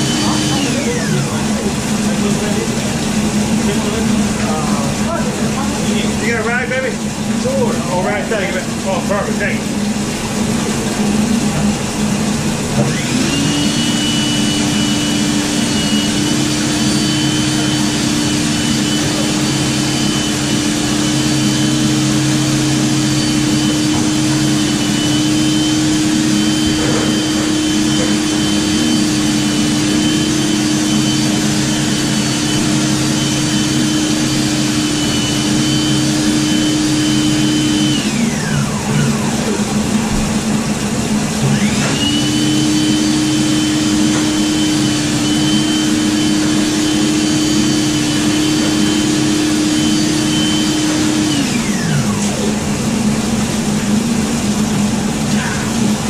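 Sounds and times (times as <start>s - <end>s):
drain machine motor whine: 0.0s - 56.0s.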